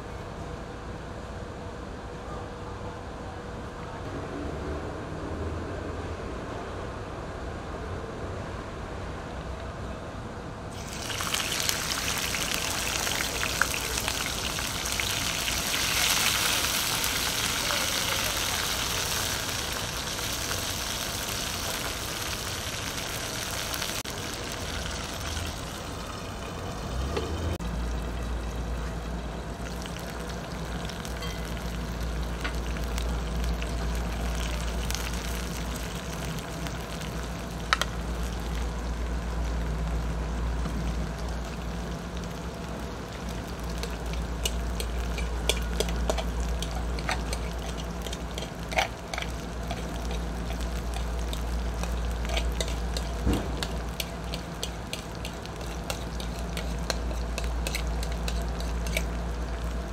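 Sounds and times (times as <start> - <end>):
vegetables sizzling in hot oil: 10.7 - 59.9.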